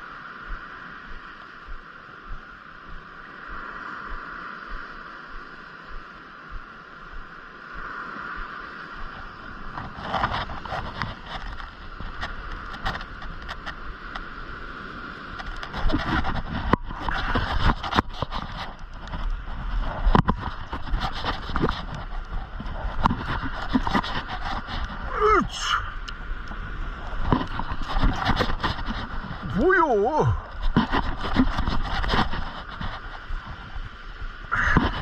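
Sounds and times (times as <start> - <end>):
surf washing over rocks: 0.0 - 35.0.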